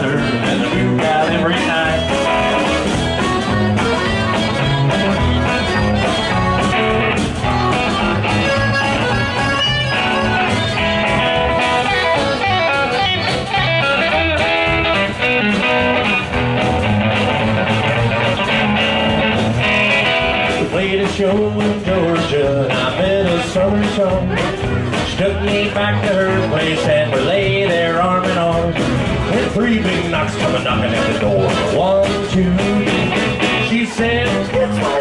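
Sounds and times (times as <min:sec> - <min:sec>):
accordion: 0:00.0 - 0:35.0
bass and rhythm pulse: 0:00.0 - 0:35.0
electric guitar: 0:00.0 - 0:35.0.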